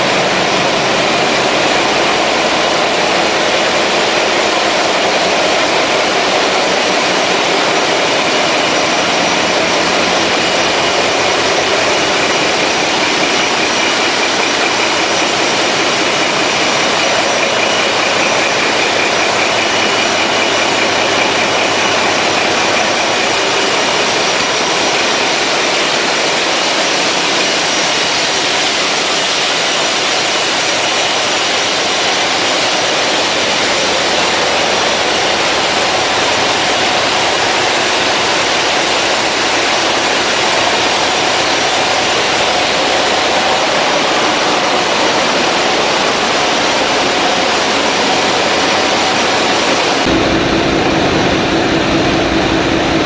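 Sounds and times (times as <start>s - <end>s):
ship diesel engine running: 0.0s - 53.0s.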